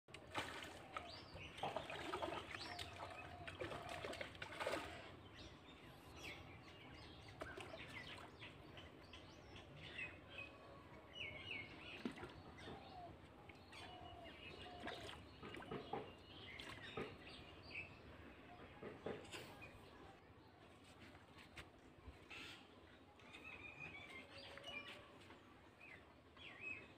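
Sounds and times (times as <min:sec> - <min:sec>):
birds chirping and twittering: 0:00.1 - 0:26.9.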